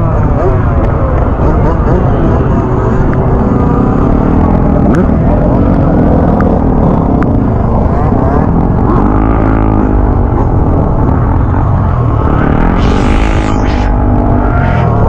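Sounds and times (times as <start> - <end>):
vehicle engines revving: 0.0 - 15.0.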